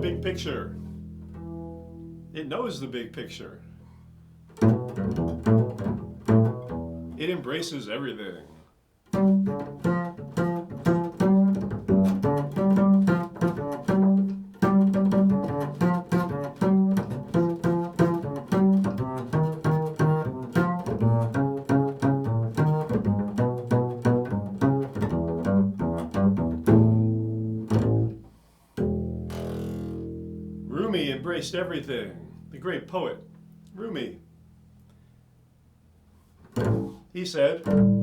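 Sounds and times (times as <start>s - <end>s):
plucked string instrument: 0.0s - 7.4s, 9.1s - 35.1s, 36.4s - 38.0s.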